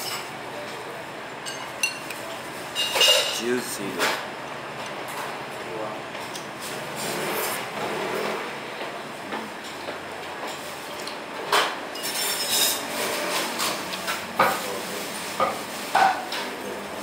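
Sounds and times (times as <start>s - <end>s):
restaurant background noise: 0.0s - 17.0s.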